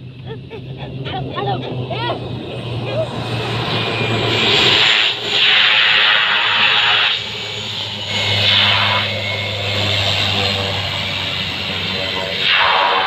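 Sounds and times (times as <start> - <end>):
low engine hum: 0.0 - 12.5
propeller whoosh: 0.0 - 13.0.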